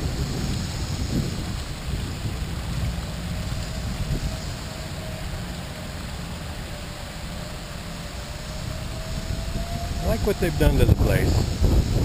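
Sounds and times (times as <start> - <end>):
waterfall spilling into pond: 0.0 - 12.0.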